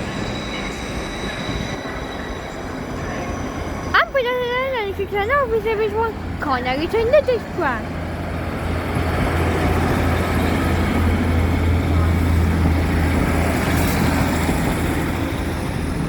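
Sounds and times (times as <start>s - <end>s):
train low hum: 0.0s - 16.0s
train rushing noise: 0.0s - 16.0s.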